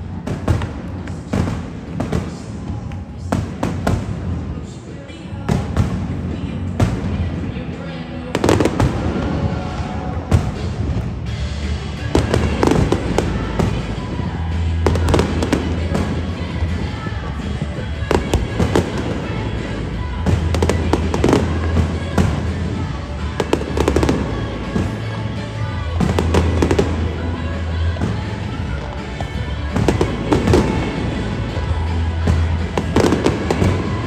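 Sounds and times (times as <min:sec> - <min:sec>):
fireworks bursting: 0:00.0 - 0:07.5, 0:08.2 - 0:34.0
music: 0:00.0 - 0:34.0.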